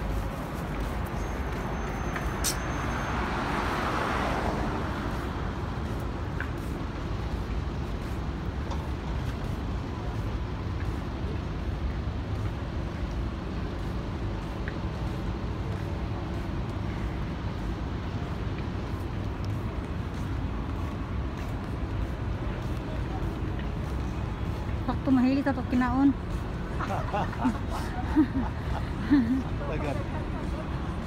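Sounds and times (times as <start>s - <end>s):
rumble of passing cars: 0.0s - 31.0s
traffic hiss: 0.0s - 31.0s.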